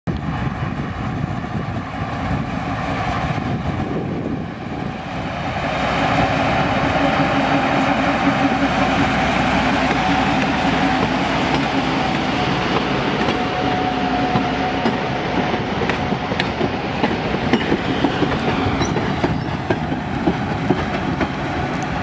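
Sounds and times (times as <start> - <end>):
diesel locomotive engine drone: 0.1 - 22.0.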